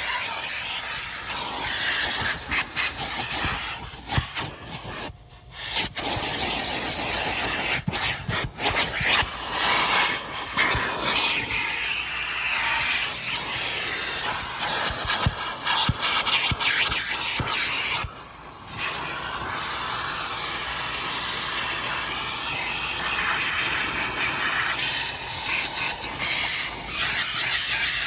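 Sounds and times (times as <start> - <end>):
vacuum hose sucking with hiss: 0.0 - 28.0.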